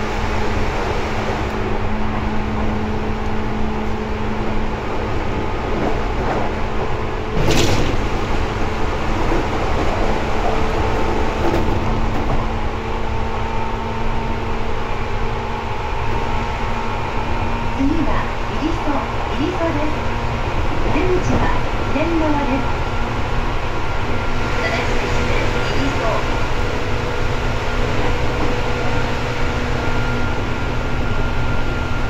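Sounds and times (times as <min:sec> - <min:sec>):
electric train running hum: 0:00.0 - 0:32.0.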